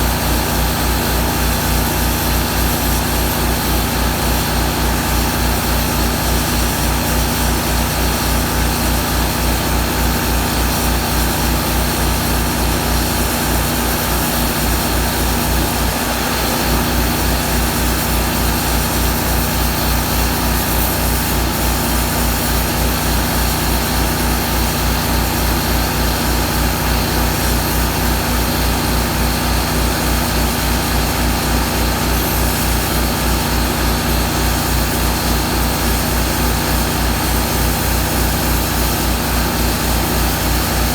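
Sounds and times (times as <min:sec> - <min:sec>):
welder generator engine running: 0:00.0 - 0:40.9.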